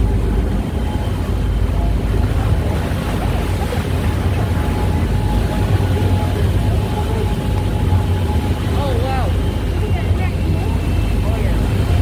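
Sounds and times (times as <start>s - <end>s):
boat engine rumble: 0.0s - 12.0s
water noise: 0.0s - 12.0s
wind: 0.0s - 12.0s.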